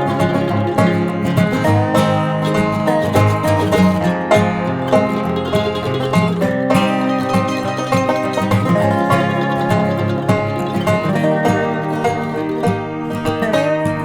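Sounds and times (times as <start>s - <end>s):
guitar: 0.0s - 14.0s
rapidly picked banjo: 0.0s - 14.0s.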